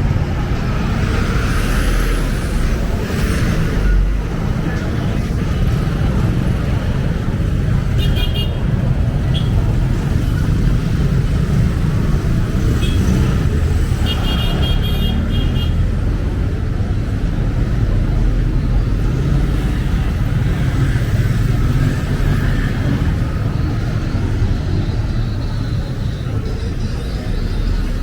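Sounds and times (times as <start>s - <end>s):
vehicle engines rumbling: 0.0s - 28.0s.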